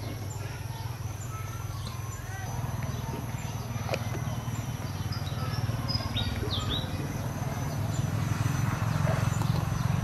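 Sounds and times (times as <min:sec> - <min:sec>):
high bird chirps: 0:00.0 - 0:10.0
steady low hum: 0:00.0 - 0:10.0.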